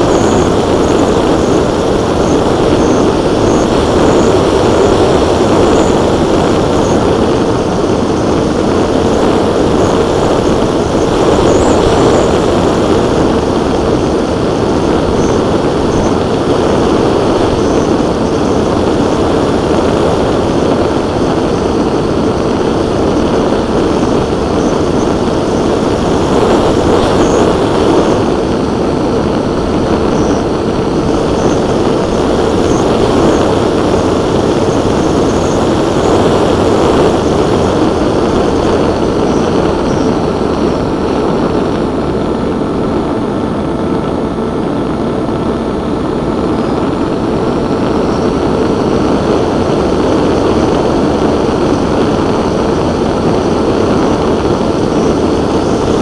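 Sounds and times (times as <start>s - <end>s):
propeller motors running: 0.0s - 56.0s
wind rushing over microphone: 0.0s - 56.0s.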